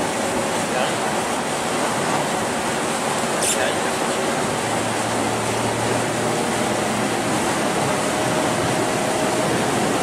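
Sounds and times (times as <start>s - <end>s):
low engine hum: 0.0s - 10.0s
water rushing: 0.0s - 10.0s
wind: 0.0s - 10.0s.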